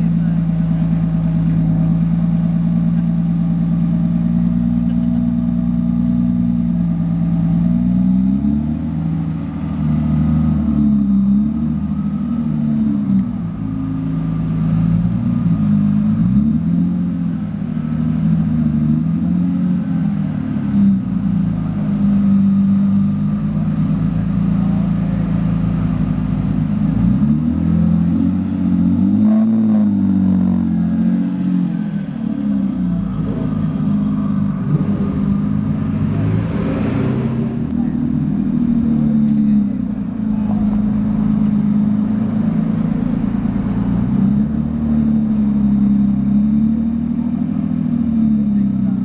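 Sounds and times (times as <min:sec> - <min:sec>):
car engine idling: 0:00.0 - 0:49.0
car engine revving: 0:00.0 - 0:49.0.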